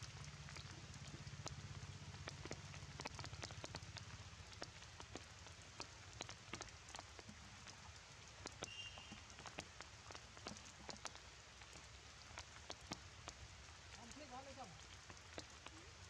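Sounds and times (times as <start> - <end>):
raindrops ticking on ground and leaves: 0.0 - 16.0
soft rain hiss: 0.0 - 16.0.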